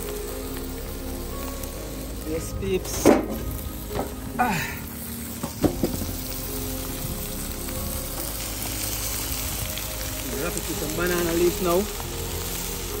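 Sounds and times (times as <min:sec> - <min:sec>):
food sizzling: 0:00.0 - 0:13.0.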